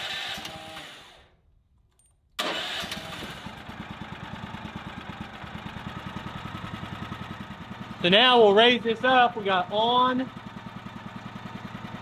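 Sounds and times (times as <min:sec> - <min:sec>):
small gasoline engine starting and running: 0:00.0 - 0:01.3, 0:02.4 - 0:12.0.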